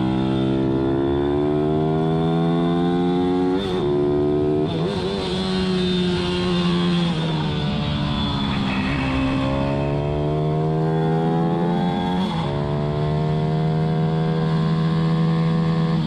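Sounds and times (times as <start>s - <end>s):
motorbike engine accelerating: 0.0s - 16.0s.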